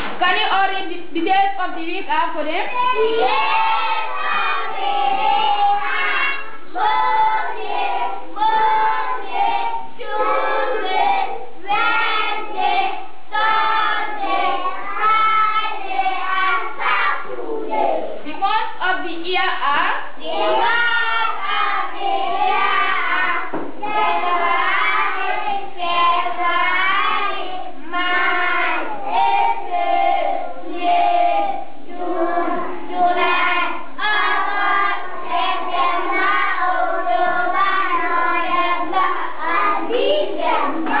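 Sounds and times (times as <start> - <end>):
children singing together: 2.7 - 18.4, 20.1 - 41.0.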